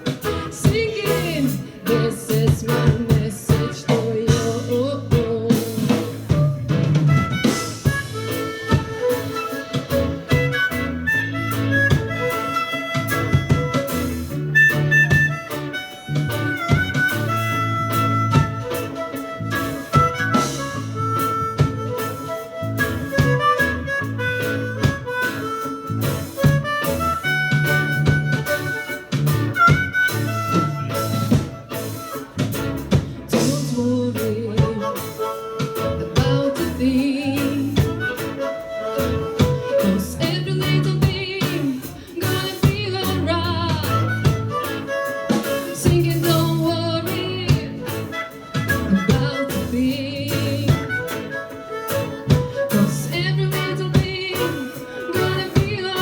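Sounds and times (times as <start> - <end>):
live reggae band playing: 0.0 - 56.0.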